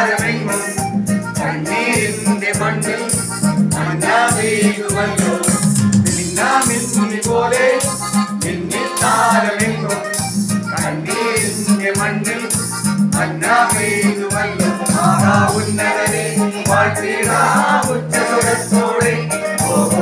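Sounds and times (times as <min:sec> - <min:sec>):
electronic keyboard accompaniment: 0:00.0 - 0:20.0
group singing in unison: 0:00.0 - 0:20.0
steady rattling beat: 0:00.0 - 0:20.0.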